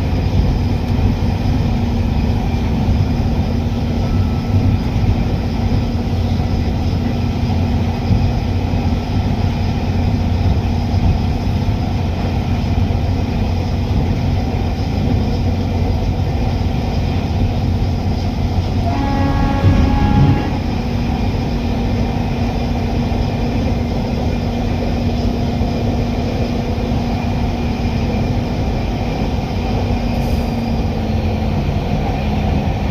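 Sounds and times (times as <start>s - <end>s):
train rumbling: 0.0s - 32.9s.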